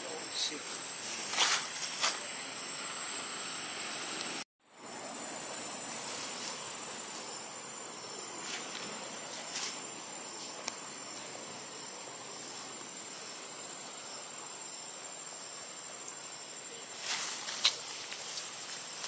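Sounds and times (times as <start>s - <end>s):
high-pitched outdoor hiss: 0.0s - 19.0s.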